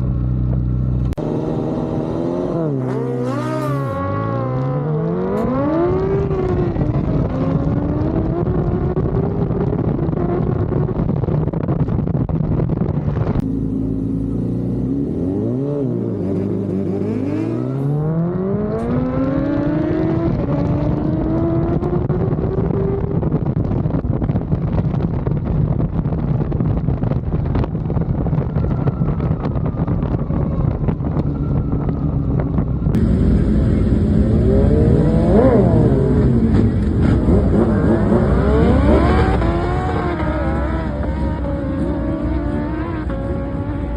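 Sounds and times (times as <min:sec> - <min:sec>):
motorcycle engines at full throttle: 0:00.0 - 0:43.9.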